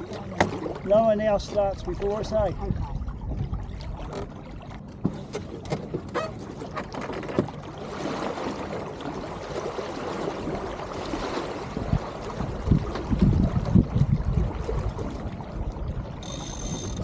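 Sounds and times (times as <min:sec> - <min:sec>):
water rushing along boat hull: 0:00.0 - 0:17.0.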